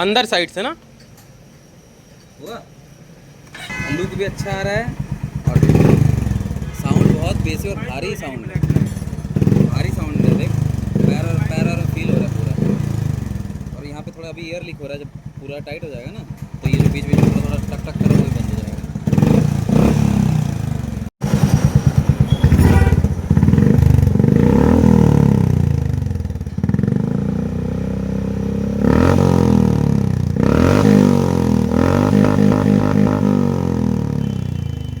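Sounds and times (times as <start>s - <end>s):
exhaust ticking: 3.4s - 35.0s
motorcycle engine revving: 3.5s - 35.0s.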